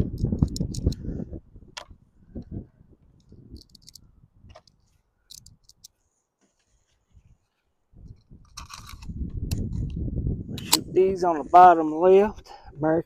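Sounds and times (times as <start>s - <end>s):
wind rumbling on microphone: 0.0s - 5.9s, 7.0s - 13.0s.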